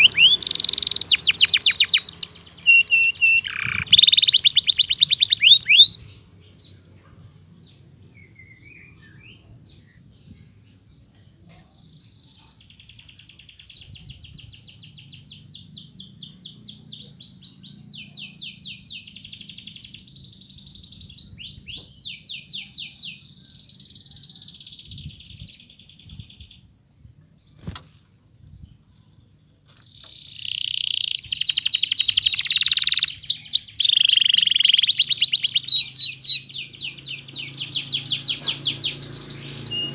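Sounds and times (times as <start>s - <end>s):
canary singing trills: 0.0s - 6.8s, 11.8s - 26.7s, 27.6s - 39.9s.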